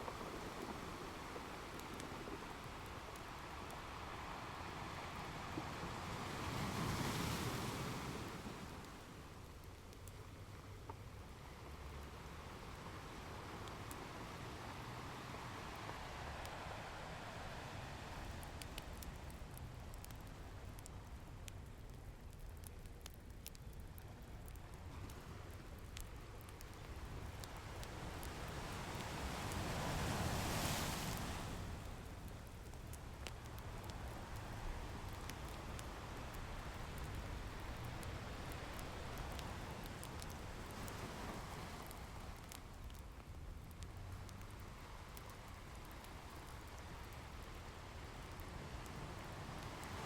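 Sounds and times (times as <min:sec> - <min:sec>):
ocean waves: 0:00.0 - 0:09.5, 0:11.3 - 0:21.2, 0:26.6 - 0:43.0, 0:44.0 - 0:50.0
wood fire crackling: 0:00.0 - 0:50.0.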